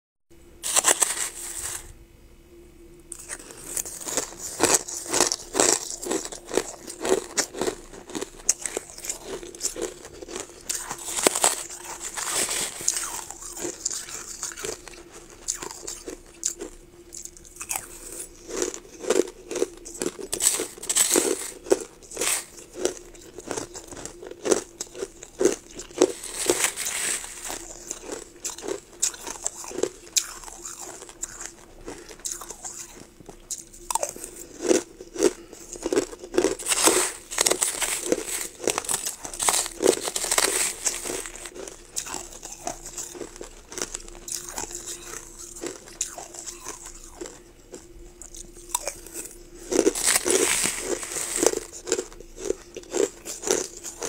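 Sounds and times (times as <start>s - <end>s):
crushed ice crunching: 0.6s - 1.9s, 3.1s - 54.0s.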